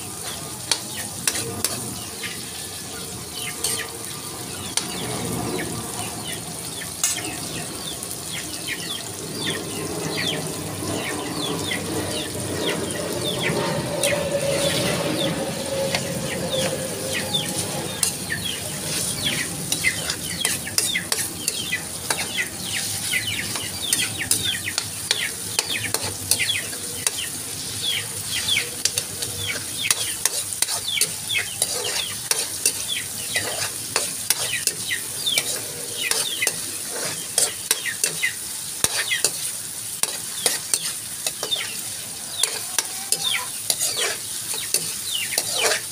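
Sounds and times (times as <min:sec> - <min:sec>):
vegetables sizzling in hot oil: 0:00.0 - 0:45.9
metal spatula scraping a pan: 0:00.2 - 0:02.4, 0:03.6 - 0:05.1, 0:07.0 - 0:07.3, 0:12.6 - 0:45.9.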